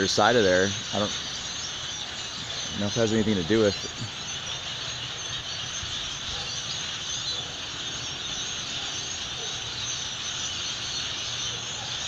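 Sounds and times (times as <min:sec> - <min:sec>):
crickets and insects chirping: 0:00.0 - 0:12.0
flock of birds chattering: 0:00.0 - 0:12.0.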